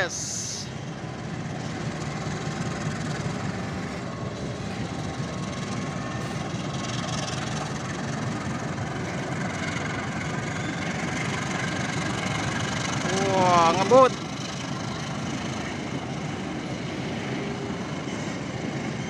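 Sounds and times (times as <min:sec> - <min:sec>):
diesel locomotive engine running: 0:00.0 - 0:19.0.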